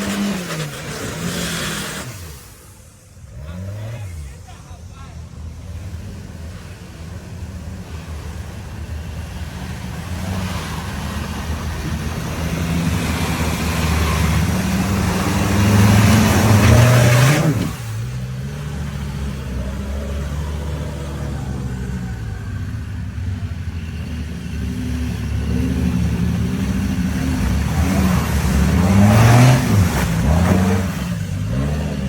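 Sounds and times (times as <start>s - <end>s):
engine revving hard: 0.0s - 4.8s, 5.6s - 32.0s.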